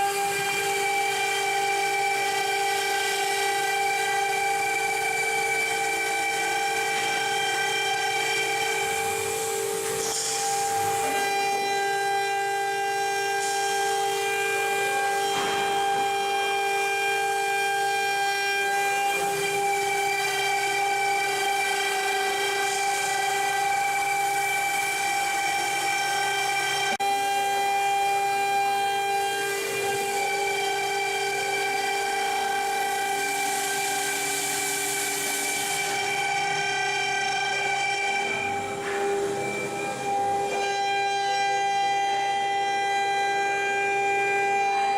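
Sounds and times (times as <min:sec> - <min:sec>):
plasma cutter whining: 0:00.0 - 0:44.9.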